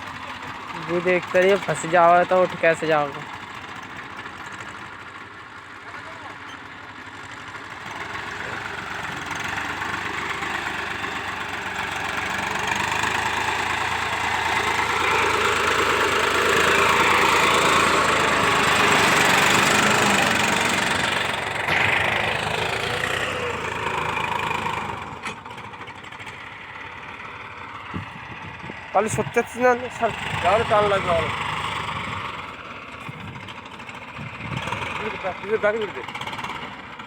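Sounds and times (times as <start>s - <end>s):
tractor diesel engine working hard: 0.0s - 37.0s.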